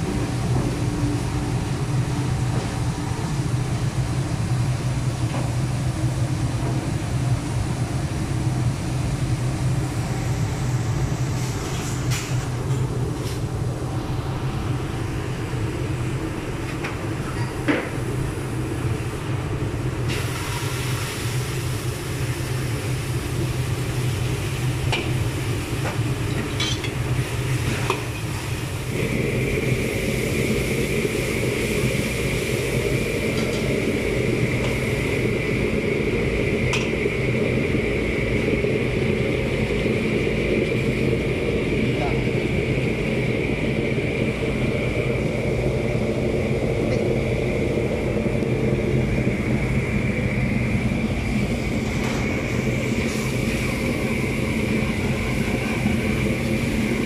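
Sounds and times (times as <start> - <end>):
gas burner roaring: 0.0 - 57.0
steady high whine: 0.0 - 57.0.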